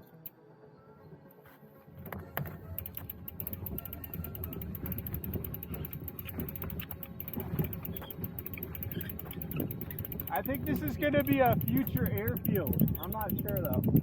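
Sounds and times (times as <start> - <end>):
mechanism rattling and clicking: 2.1 - 14.0.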